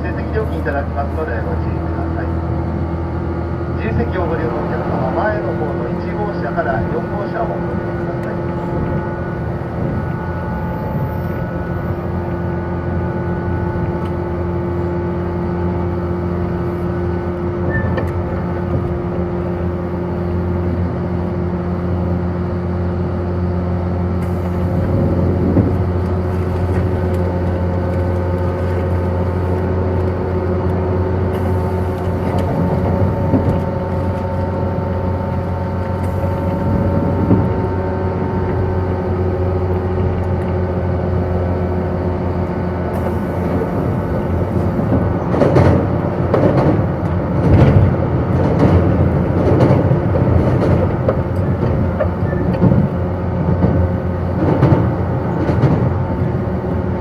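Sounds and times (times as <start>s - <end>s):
electric train running drone: 0.0s - 57.0s.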